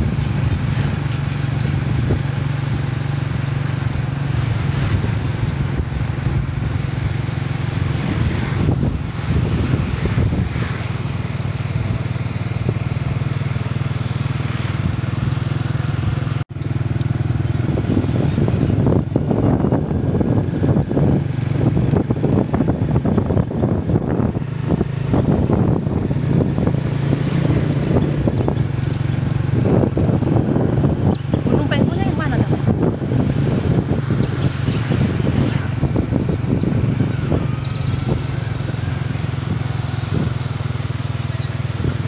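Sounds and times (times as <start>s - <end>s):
scooter engine hum: 0.0s - 42.0s
wind rushing over microphone: 0.0s - 42.0s.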